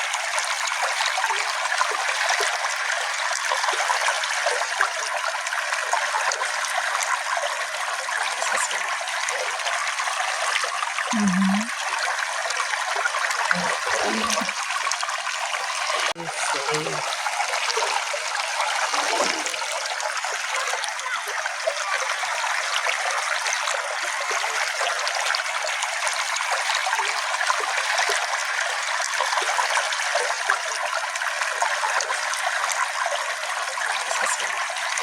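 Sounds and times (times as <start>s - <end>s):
brook water trickling: 0.0s - 35.0s.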